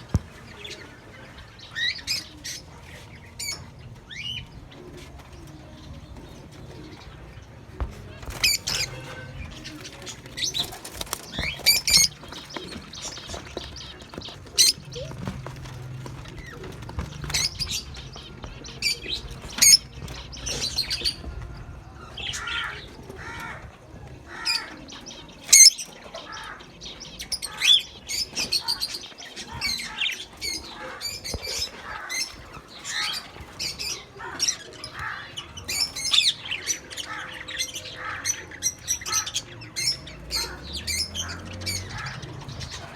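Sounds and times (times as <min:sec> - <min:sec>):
budgerigars chirping and chattering: 0:00.0 - 0:42.9.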